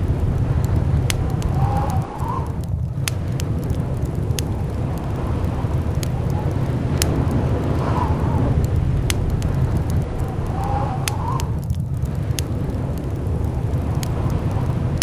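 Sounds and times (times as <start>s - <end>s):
deep wind rumble: 0.0s - 15.0s
sharp crackling pops: 0.0s - 15.0s
whistling wind: 0.0s - 15.0s.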